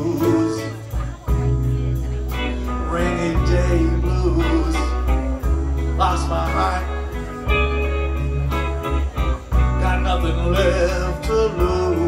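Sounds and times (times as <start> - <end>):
live blues band playing: 0.0 - 12.0.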